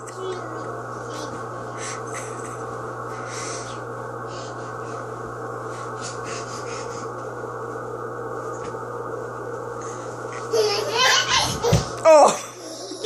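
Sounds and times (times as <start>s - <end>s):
steady low hum and hiss: 0.0s - 13.0s.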